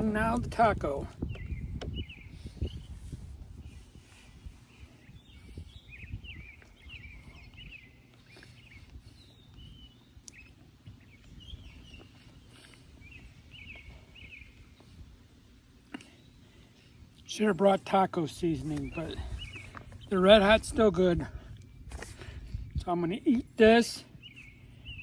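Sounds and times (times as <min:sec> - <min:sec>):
birds chirping: 0:00.0 - 0:25.0
low outdoor rumble: 0:00.0 - 0:25.0.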